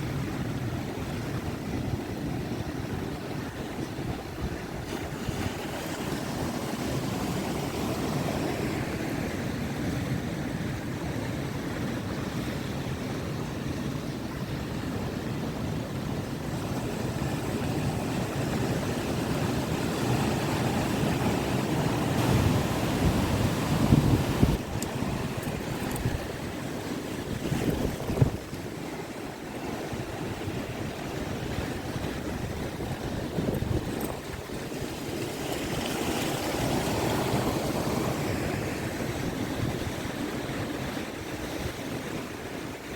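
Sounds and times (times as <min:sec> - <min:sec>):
wind buffeting microphone: 0:00.0 - 0:09.4, 0:16.4 - 0:42.2
waves breaking: 0:00.0 - 0:42.9.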